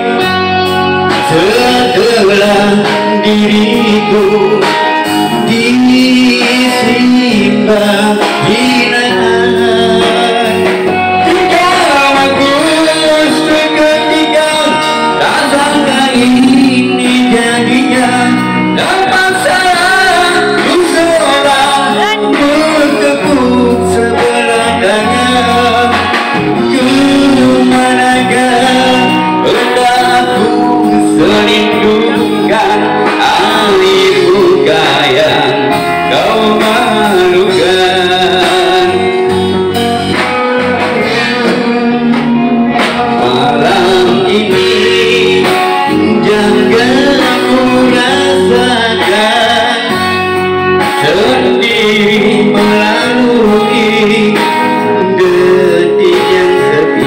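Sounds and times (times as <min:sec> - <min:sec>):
drums: 0:00.0 - 0:57.0
electric guitars: 0:00.0 - 0:57.0
man singing through a microphone: 0:00.0 - 0:57.0.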